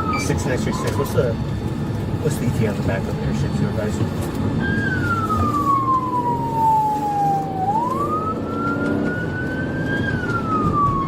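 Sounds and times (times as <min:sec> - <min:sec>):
police siren wailing: 0:00.0 - 0:01.6, 0:03.6 - 0:11.0
engine and road rumble: 0:00.0 - 0:11.0.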